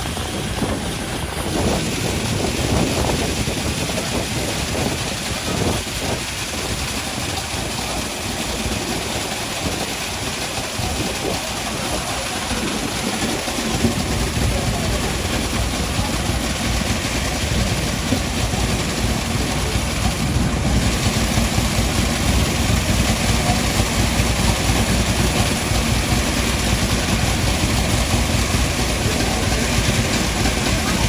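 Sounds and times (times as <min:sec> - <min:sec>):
street traffic noise: 0:00.0 - 0:31.0
vehicle engine idling: 0:00.0 - 0:31.0.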